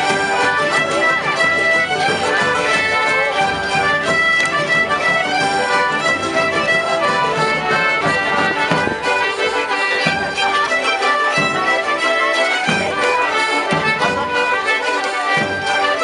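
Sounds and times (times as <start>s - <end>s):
bass and snare drum beat: 0.0s - 14.7s
accordions: 0.0s - 16.0s
fiddles: 0.0s - 16.0s
mandolin: 0.0s - 16.0s.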